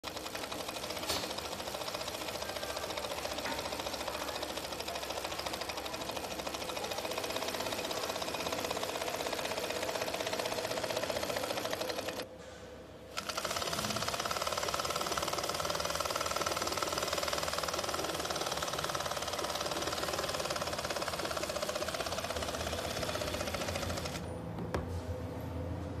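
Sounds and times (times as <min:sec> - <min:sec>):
sewing machine clatter: 0:00.0 - 0:12.3, 0:13.1 - 0:24.3.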